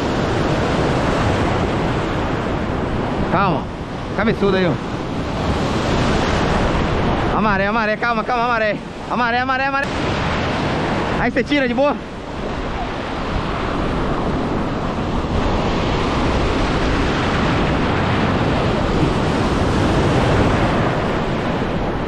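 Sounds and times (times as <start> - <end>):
surf breaking over rocks: 0.0 - 22.0.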